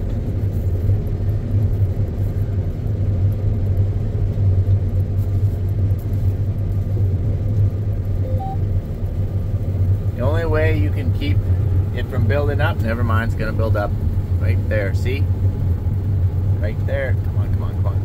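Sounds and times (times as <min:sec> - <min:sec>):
combine harvester drone: 0:00.0 - 0:18.0.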